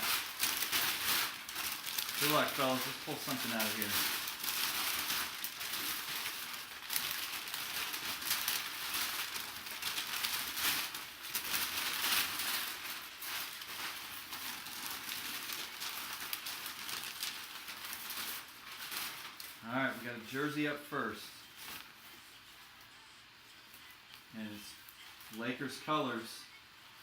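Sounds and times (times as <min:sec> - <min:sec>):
packaging rustling and crinkling: 0:00.0 - 0:27.0.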